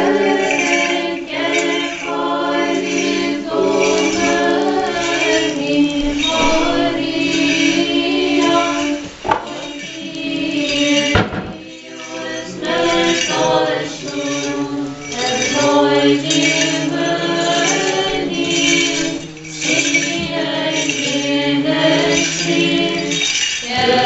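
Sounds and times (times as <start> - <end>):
voices chanting together: 0.0 - 24.0.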